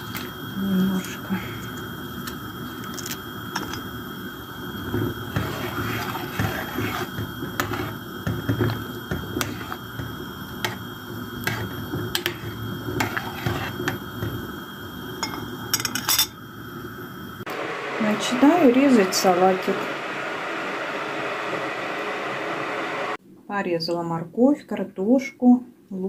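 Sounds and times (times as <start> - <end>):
broth bubbling in a pot: 0.0 - 23.2.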